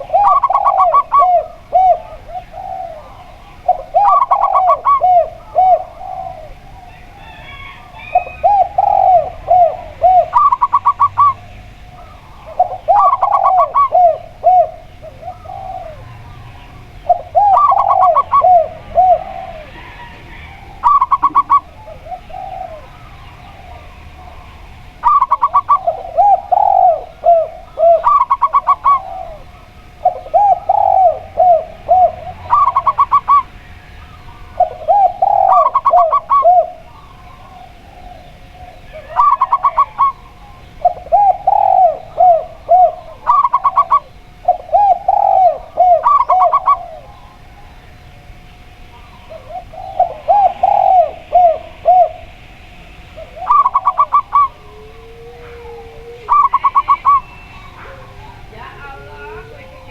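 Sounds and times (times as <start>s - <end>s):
high stuttering dove calls: 0.0s - 48.0s, 48.7s - 59.9s
dove cooing: 0.0s - 59.9s.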